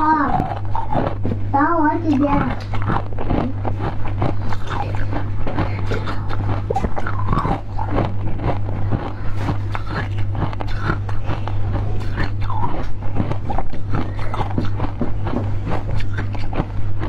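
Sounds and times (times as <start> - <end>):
chewing and biting: 0.0 - 17.0
steady low hum: 0.0 - 17.0.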